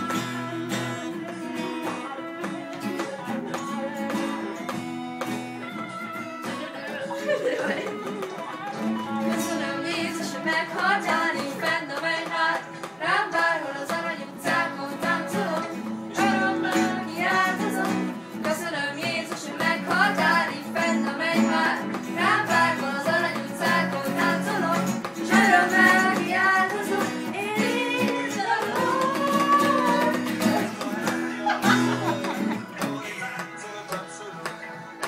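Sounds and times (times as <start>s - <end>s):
women singing: 0.0s - 34.9s
strummed acoustic guitar: 0.0s - 35.0s.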